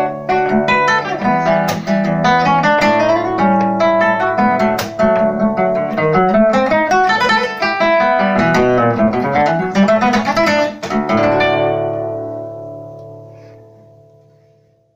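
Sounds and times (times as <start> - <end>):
classical guitar fingerstyle: 0.0 - 14.9.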